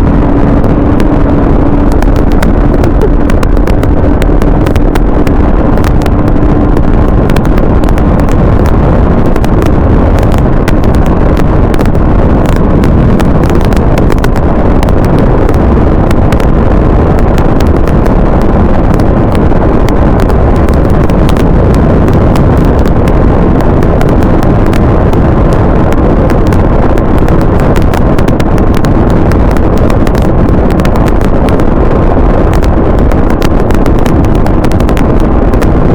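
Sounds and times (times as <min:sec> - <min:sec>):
crackling pops: 0:00.0 - 0:35.9
heavy wind on microphone: 0:00.0 - 0:35.9
motorcycle engine running: 0:00.0 - 0:35.9.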